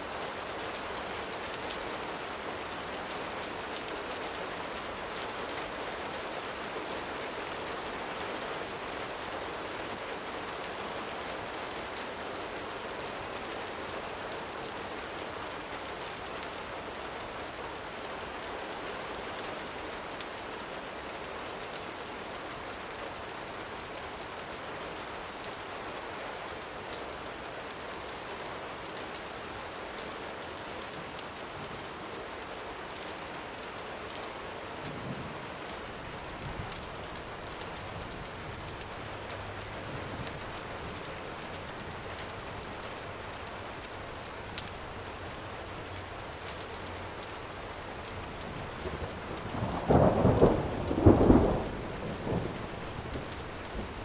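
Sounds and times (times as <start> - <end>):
gentle rain falling: 0.0 - 54.0.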